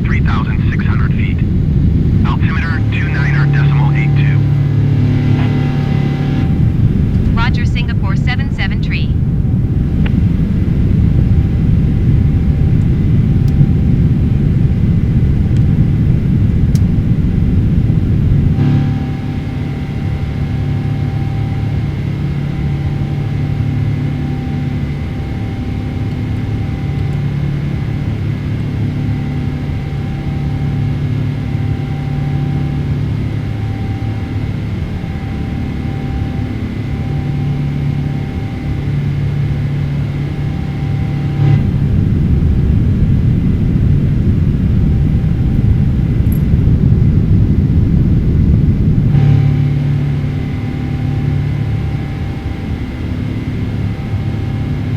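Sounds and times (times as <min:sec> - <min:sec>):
airplane cabin engine drone: 0:00.0 - 0:54.9
louder rougher rumble: 0:00.0 - 0:54.9.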